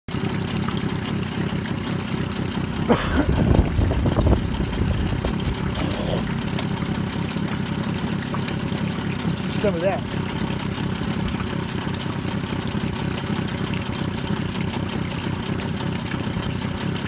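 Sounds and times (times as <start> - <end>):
outboard motor idling: 0.1 - 17.0.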